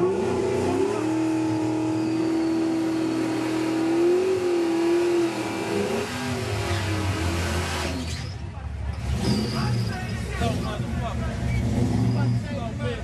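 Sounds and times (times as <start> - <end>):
car engine at high revs: 0.0 - 8.2, 8.8 - 13.0.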